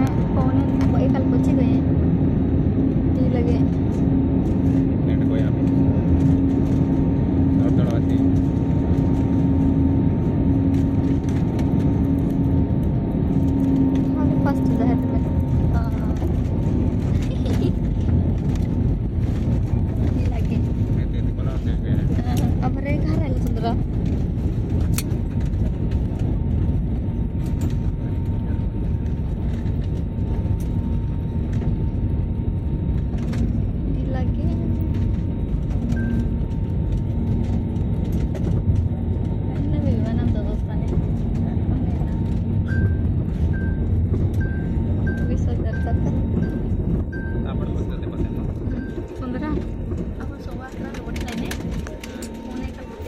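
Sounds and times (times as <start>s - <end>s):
airliner cabin rumble: 0.0s - 53.0s
steady hum: 0.0s - 53.0s.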